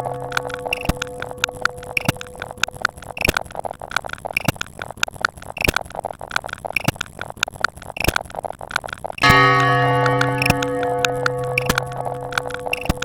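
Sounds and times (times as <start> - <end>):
sharp clicks: 0.0 - 13.0.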